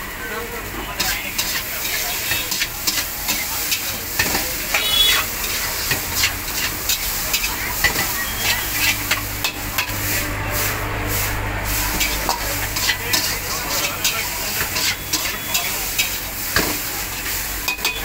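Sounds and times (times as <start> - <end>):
noodles sizzling in a wok: 0.0 - 18.0
metal spatula scraping wok: 1.0 - 18.0.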